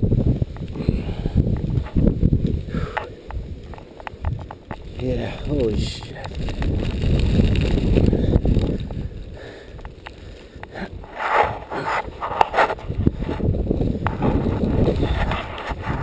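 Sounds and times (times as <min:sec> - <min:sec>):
low microphone rumble: 0:00.0 - 0:16.0
footsteps crunching through snow: 0:01.6 - 0:16.0.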